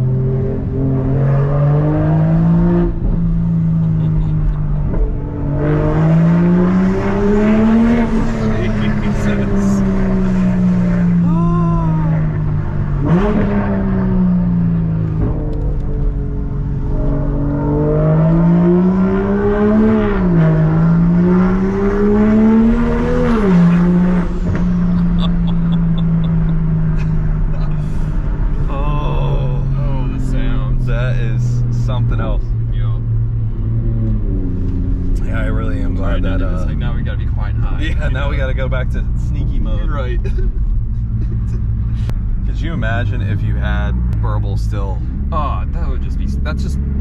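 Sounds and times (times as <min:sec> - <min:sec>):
turbocharged car engine accelerating: 0:00.0 - 0:47.0.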